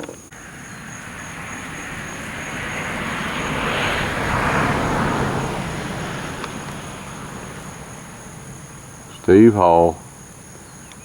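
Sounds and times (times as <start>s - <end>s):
crickets chirping: 0.0s - 11.0s
passing vehicle rushing: 0.3s - 10.8s.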